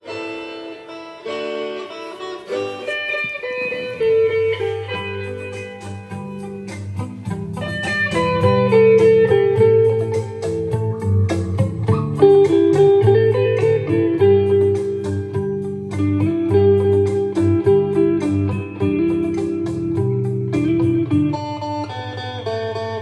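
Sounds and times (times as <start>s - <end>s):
electric guitar: 0.0s - 23.0s
plucked guitar: 0.0s - 23.0s
bass guitar: 3.0s - 22.2s.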